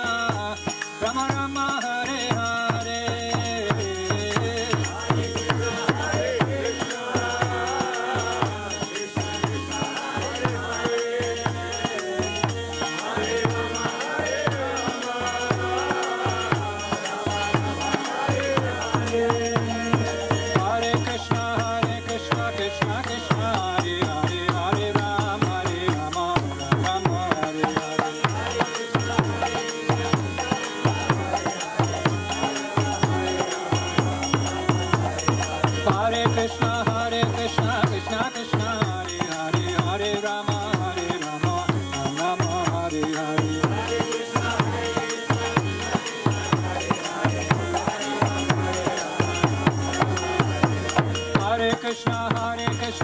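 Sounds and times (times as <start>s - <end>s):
group call-and-response chanting: 0.0s - 53.0s
drum beat: 2.4s - 53.0s
sustained held notes: 2.5s - 53.0s.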